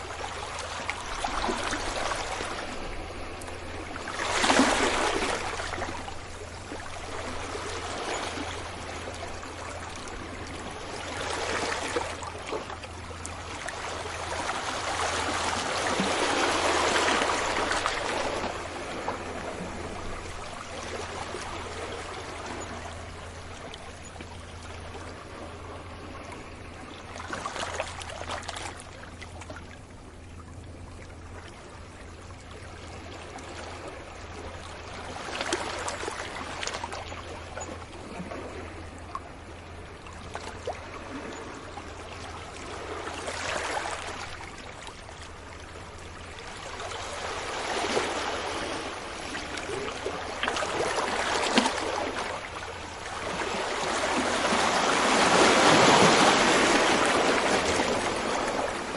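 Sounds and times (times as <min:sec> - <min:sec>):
sea waves washing on beach: 0:00.0 - 0:29.6, 0:37.6 - 0:58.9
steady low hum: 0:00.0 - 0:58.9.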